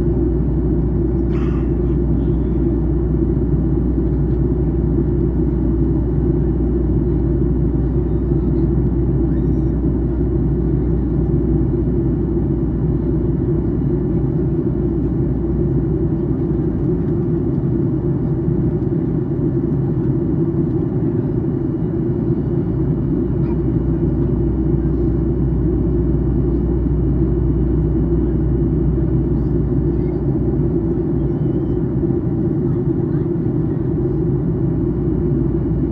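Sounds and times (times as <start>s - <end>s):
airplane cabin engine rumble: 0.0s - 35.9s.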